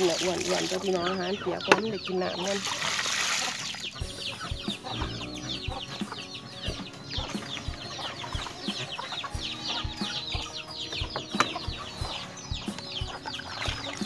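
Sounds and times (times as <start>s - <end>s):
chickens clucking and chirping: 0.0s - 14.0s.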